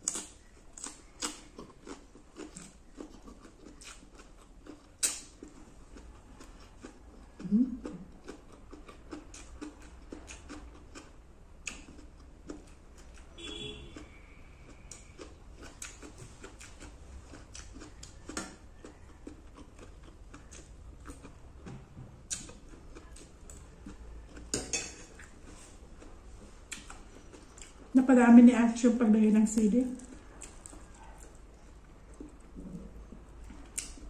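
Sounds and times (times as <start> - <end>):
chewing clicks and smacks: 0.0 - 27.9, 29.6 - 34.0.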